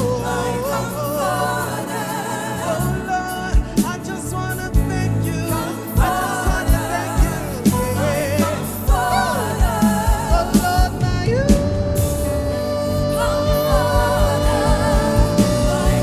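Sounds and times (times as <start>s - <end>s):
bass: 0.0s - 16.0s
person singing: 0.0s - 16.0s.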